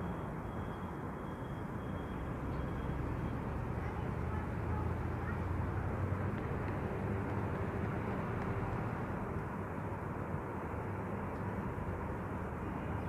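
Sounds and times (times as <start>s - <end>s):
low rumble of city ambience: 0.0s - 13.0s.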